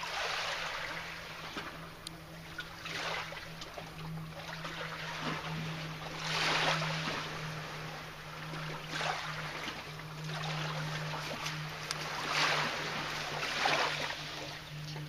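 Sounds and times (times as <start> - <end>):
sea water washing over rocks: 0.0 - 15.0
steady low hum: 0.0 - 15.0.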